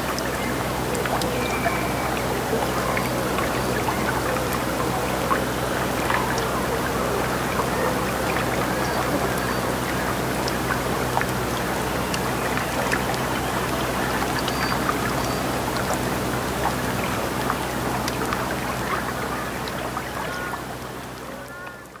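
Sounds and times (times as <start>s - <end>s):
low steady hum: 0.0s - 22.0s
moving water: 0.0s - 22.0s.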